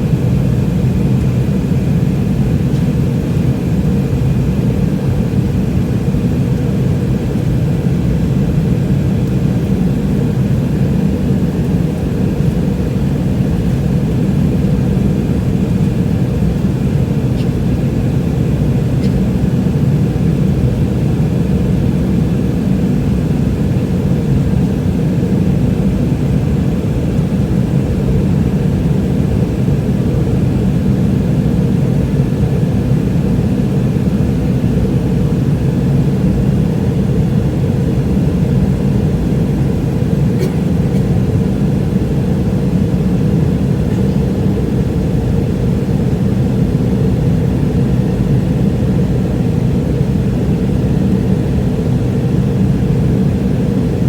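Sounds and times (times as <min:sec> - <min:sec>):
jet cabin engine rumble: 0:00.0 - 0:54.0.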